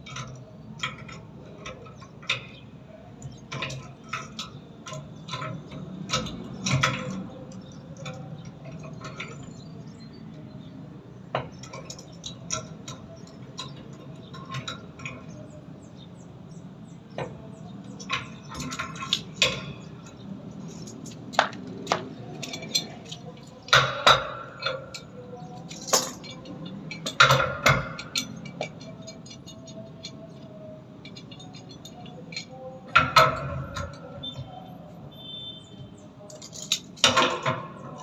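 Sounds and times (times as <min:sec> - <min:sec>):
tools and small parts clinking: 0:00.0 - 0:10.6, 0:11.2 - 0:38.0.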